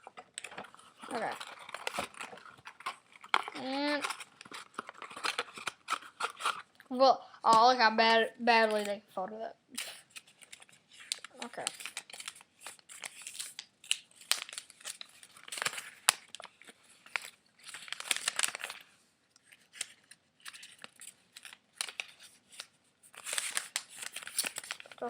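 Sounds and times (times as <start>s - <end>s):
paper crinkling and rustling: 0.0s - 6.8s, 8.6s - 9.0s, 9.8s - 25.0s.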